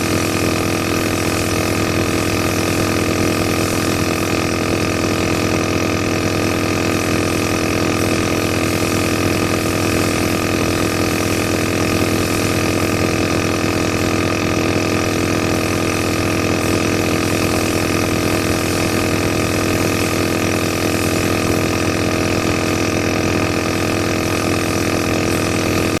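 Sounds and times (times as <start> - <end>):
compressor nebulizer humming: 0.0 - 26.0.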